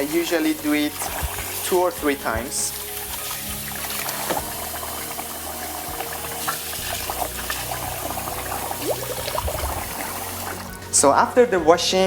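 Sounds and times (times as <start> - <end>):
tap water running into a pot: 0.0 - 11.0.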